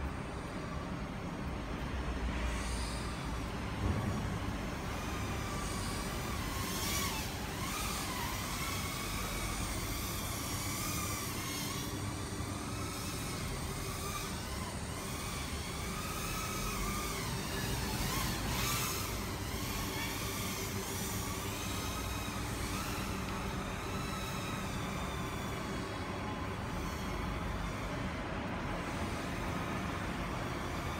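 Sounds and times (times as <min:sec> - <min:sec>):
drone motors whining: 0:00.0 - 0:30.9.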